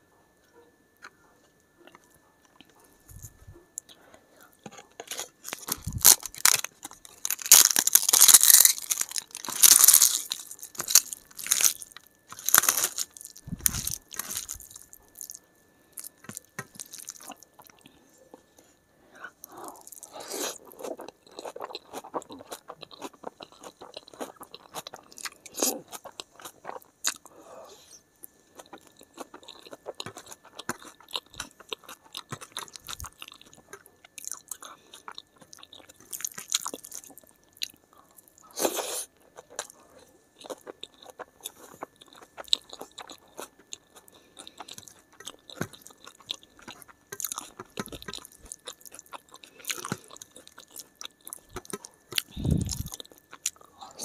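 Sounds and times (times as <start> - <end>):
wet chewing with crunches: 1.8 - 15.4, 16.0 - 18.5, 19.4 - 27.3, 28.2 - 53.8.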